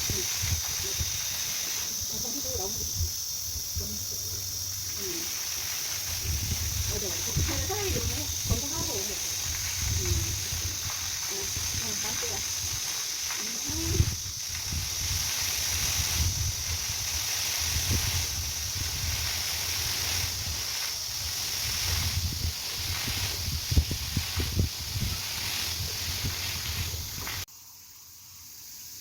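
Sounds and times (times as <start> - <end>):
wind rumble on microphone: 0.0 - 5.1, 6.0 - 27.4
insects droning: 0.0 - 29.0.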